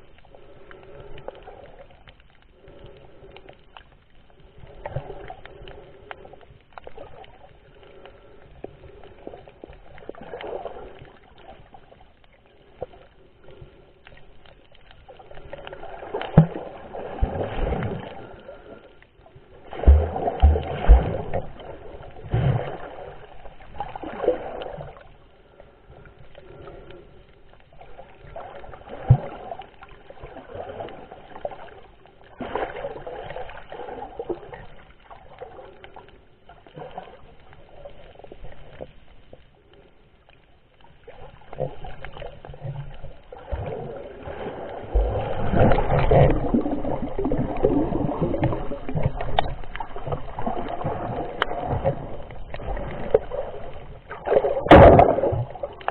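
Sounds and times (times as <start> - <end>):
muffled water sloshing: 0.0 - 55.9.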